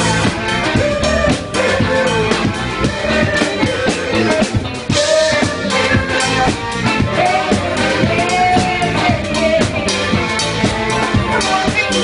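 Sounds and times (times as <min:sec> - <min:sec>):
drum kit steady beat: 0:00.0 - 0:12.0
funk and soul band playing: 0:00.0 - 0:12.0.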